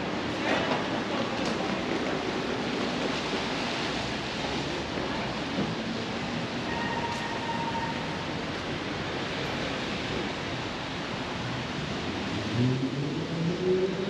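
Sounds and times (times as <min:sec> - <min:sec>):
rain falling on street: 0:00.0 - 0:14.0
traffic: 0:00.0 - 0:14.0.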